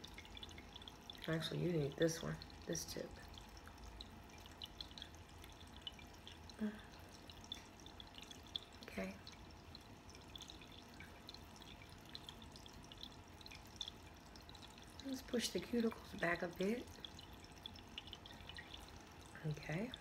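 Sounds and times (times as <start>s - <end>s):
small water drips: 0.0s - 20.0s
water fountain trickling: 0.0s - 20.0s.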